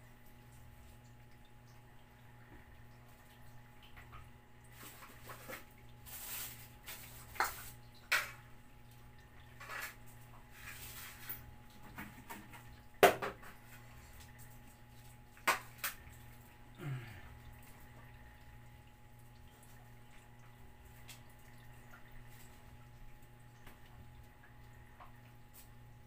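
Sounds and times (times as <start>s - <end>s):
cats lapping and chewing: 0.2s - 26.0s.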